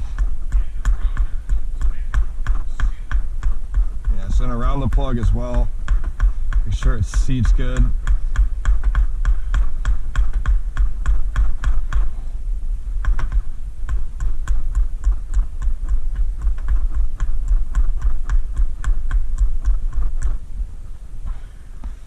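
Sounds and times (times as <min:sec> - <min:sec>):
hammer tapping on rubber tire plug: 0:00.0 - 0:12.2, 0:13.0 - 0:20.4
steady low rumble: 0:00.0 - 0:22.0.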